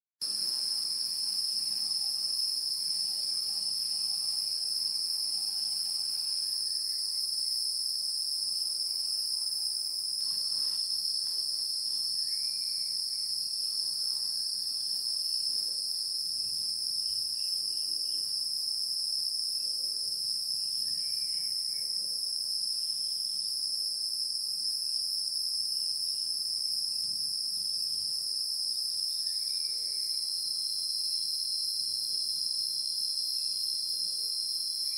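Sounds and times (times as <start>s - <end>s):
insects trilling: 0.2s - 34.9s.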